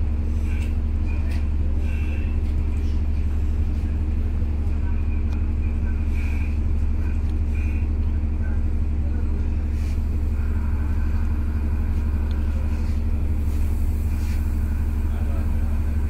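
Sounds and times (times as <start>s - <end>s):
ship machinery droning: 0.0s - 16.0s.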